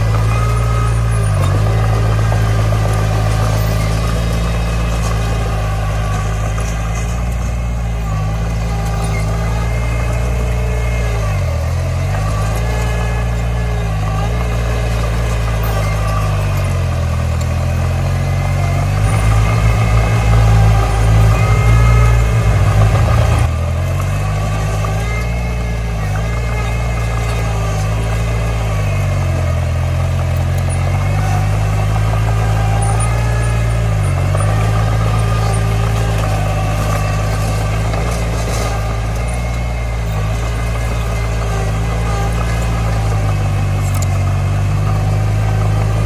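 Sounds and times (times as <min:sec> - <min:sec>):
bulldozer diesel engine working: 0:00.0 - 0:46.0.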